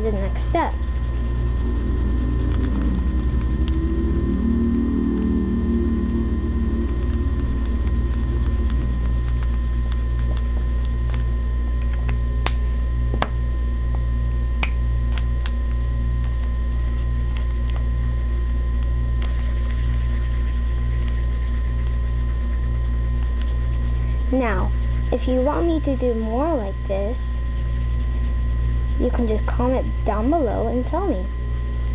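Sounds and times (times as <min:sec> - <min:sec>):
low electrical hum: 0:00.0 - 0:31.9.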